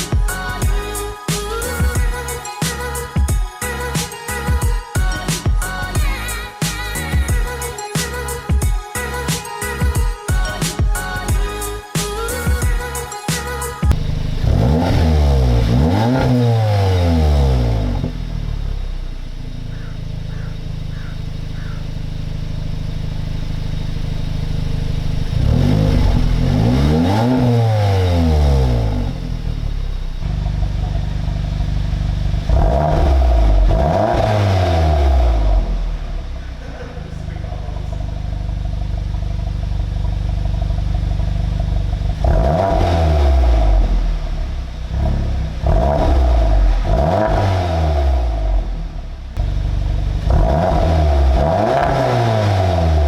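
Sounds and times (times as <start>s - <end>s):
car engine revving and idling: 0.0s - 53.0s.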